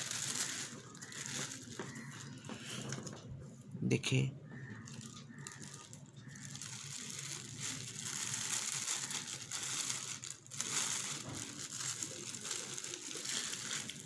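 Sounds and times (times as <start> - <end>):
plastic bag crinkling: 0.0 - 3.3, 4.5 - 14.0.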